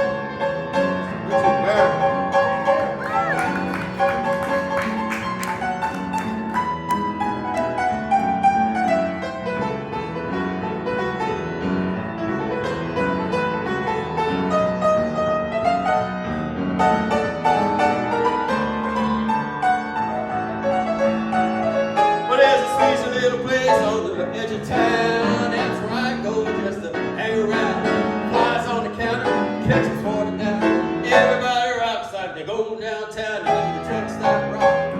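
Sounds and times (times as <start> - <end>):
piano lead: 0.0 - 32.2, 33.2 - 34.9.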